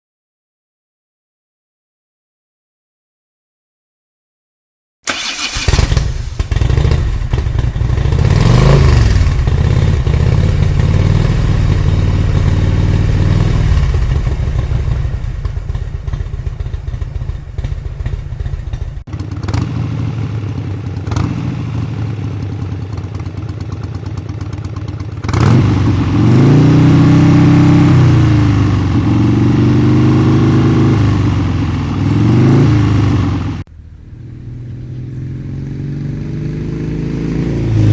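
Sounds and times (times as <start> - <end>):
motorcycle engines revving: 5.1 - 15.1, 15.7 - 37.9.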